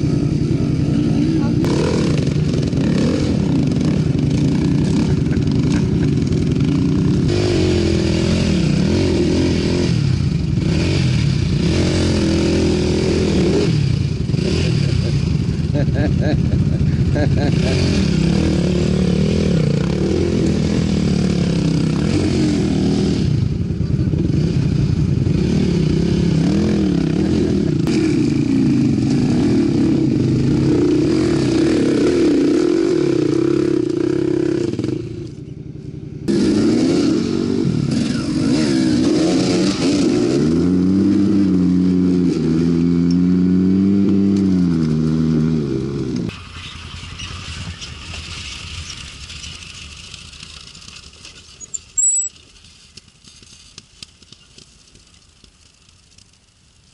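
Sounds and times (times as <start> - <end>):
dirt bike engines revving: 0.0 - 56.9.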